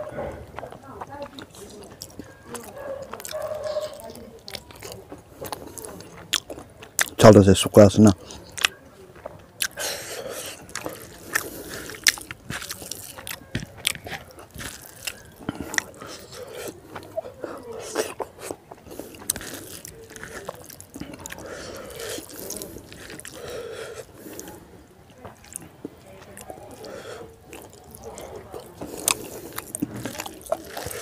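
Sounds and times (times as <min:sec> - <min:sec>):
chewing and mouth smacks: 0:00.0 - 0:07.2, 0:08.2 - 0:31.0.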